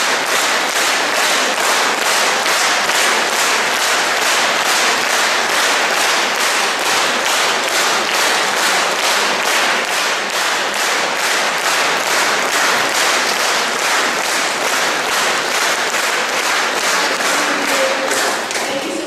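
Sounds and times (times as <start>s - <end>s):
audience clapping in rhythm: 0.0s - 19.0s.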